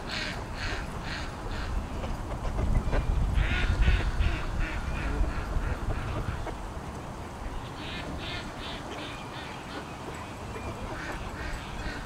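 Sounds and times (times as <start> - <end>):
ducks quacking: 0.0 - 6.8, 7.5 - 12.0.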